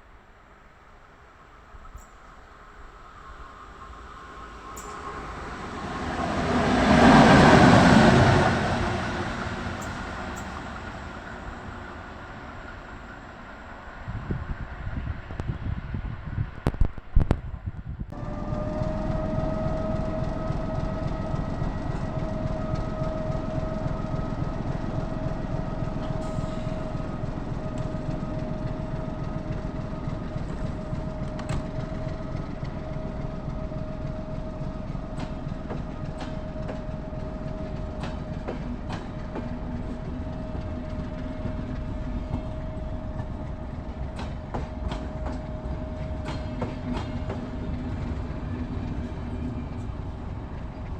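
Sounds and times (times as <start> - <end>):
train whine: 0.0 - 50.9.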